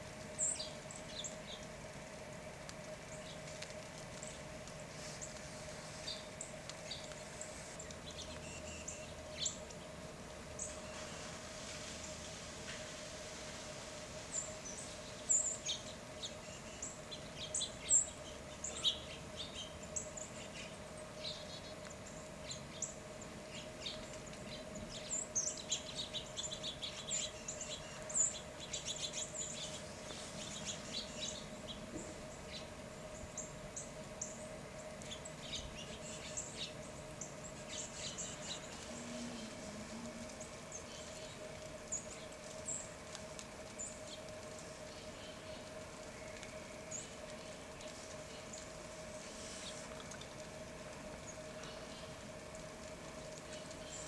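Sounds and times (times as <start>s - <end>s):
faint steady hum: 0.0s - 54.0s
songbirds chipping and twittering: 0.1s - 54.0s.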